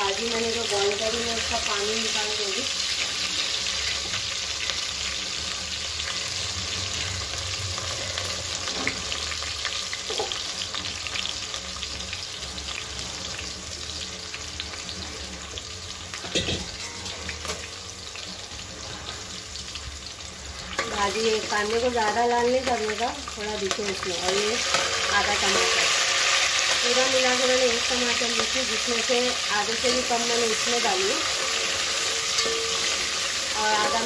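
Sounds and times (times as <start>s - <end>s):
food cooking crackling hiss: 0.0s - 34.0s.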